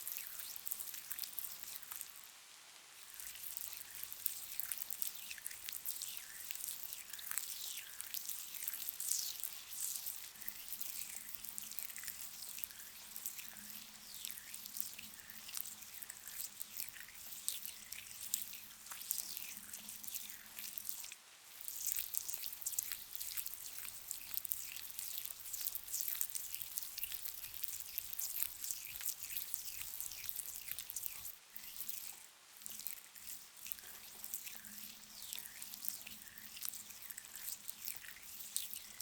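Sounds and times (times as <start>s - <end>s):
wet crackly face scrub rubbing: 0.0s - 2.3s, 3.0s - 39.0s
soft rain: 0.0s - 39.0s.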